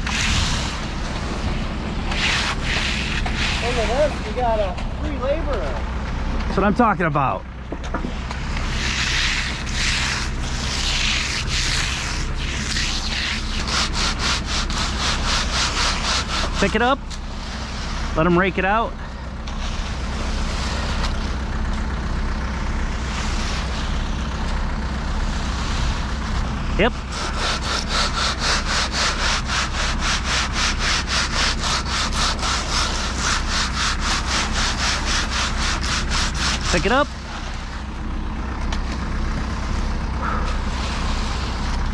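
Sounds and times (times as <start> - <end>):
wet concrete scraping and sliding: 0.0 - 5.8, 7.8 - 21.9, 22.7 - 41.9
truck engine humming: 0.0 - 41.9.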